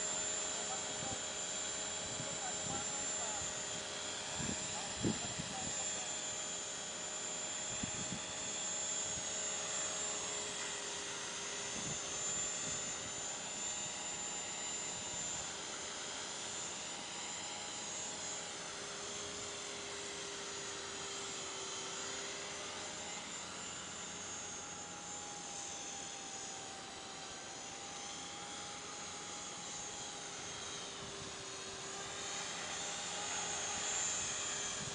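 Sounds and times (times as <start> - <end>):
rc helicopter flying: 0.0 - 34.9.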